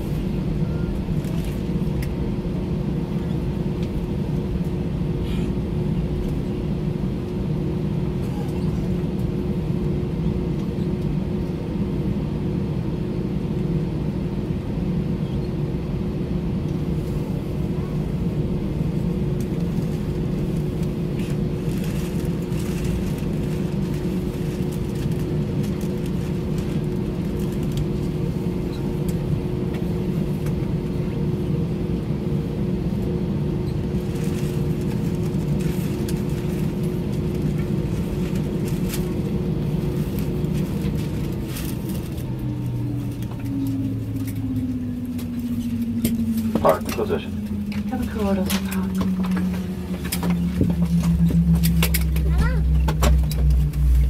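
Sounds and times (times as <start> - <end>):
aircraft engines low rumble: 0.0 - 54.0.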